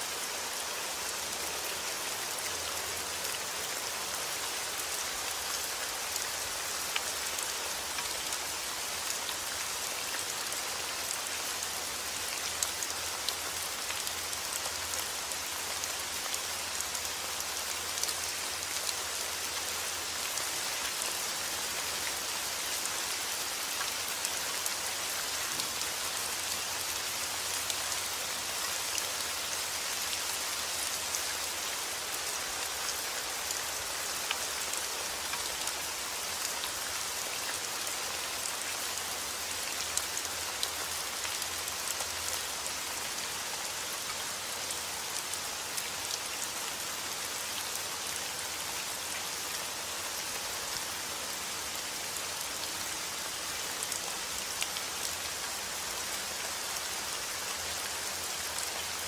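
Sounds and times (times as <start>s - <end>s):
raindrops hitting surfaces: 0.0s - 59.0s.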